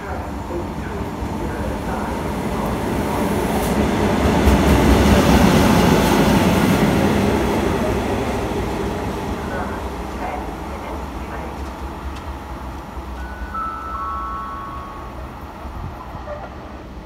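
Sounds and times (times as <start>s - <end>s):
electric locomotive passing: 0.0s - 17.0s.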